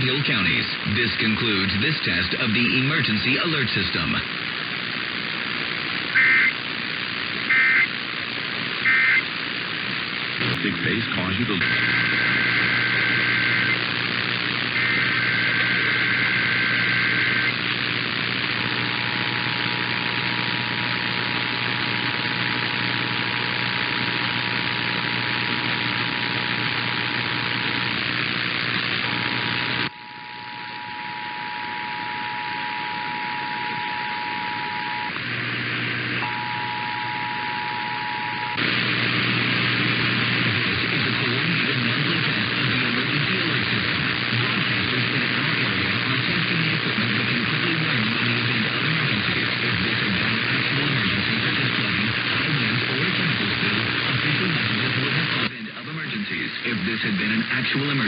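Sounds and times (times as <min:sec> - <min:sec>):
radio static hiss: 0:00.0 - 0:58.0.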